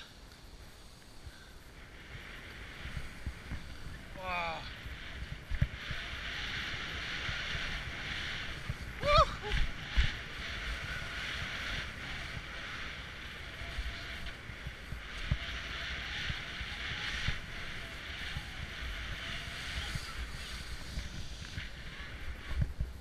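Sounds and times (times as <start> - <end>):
snowboard hissing through snow: 0.0 - 23.0
wind buffeting microphone: 0.0 - 23.0.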